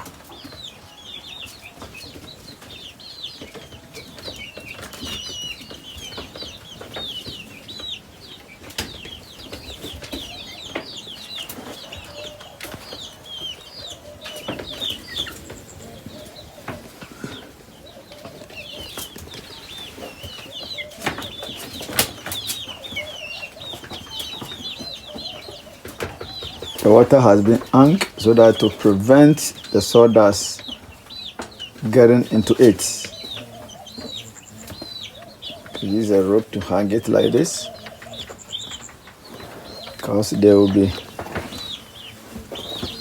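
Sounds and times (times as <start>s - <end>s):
chicks peeping: 0.0s - 43.0s
wings flapping: 8.6s - 43.0s.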